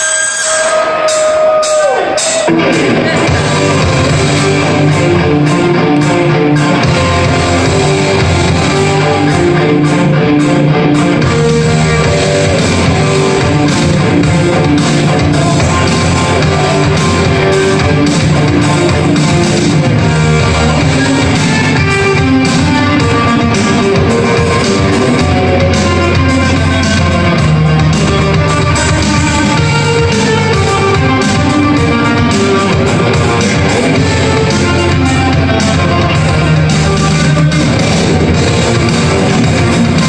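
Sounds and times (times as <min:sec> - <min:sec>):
electric guitar: 0:00.0 - 0:40.0
live rock instrumental: 0:00.0 - 0:40.0.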